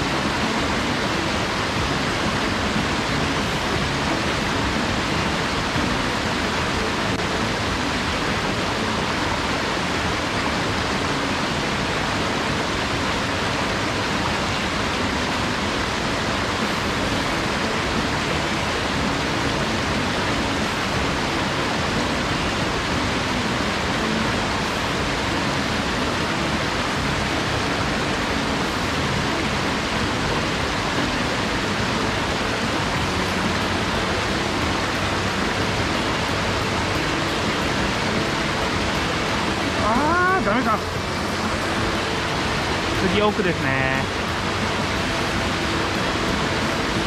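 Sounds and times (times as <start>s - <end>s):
stream rushing over rocks: 0.0s - 47.0s.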